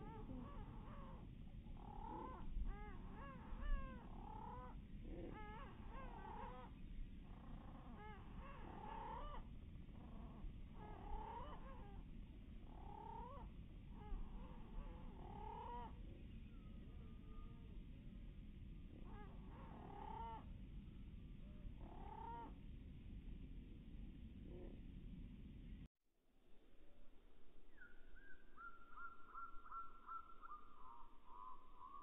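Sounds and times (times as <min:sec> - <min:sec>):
slowed-down tern calls: 0:00.0 - 0:18.2, 0:18.9 - 0:22.6, 0:27.7 - 0:32.0.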